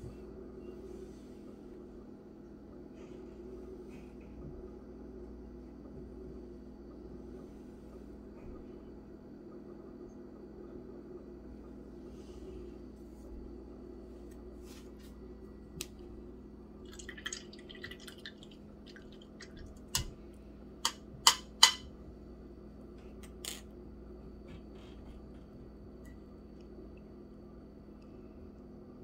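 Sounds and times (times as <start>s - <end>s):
low room hum: 0.0s - 29.0s.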